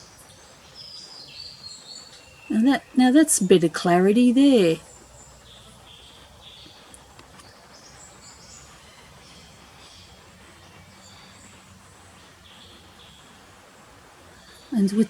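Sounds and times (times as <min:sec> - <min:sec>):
background hiss: 0:00.0 - 0:15.0
small birds calling: 0:00.0 - 0:15.0.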